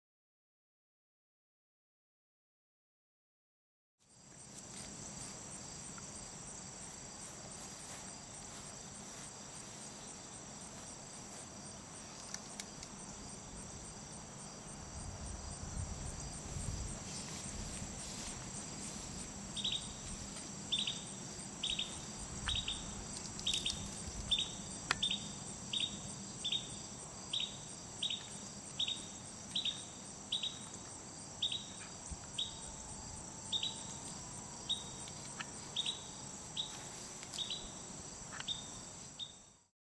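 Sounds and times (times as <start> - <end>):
insects chorus: 4.1 - 39.6.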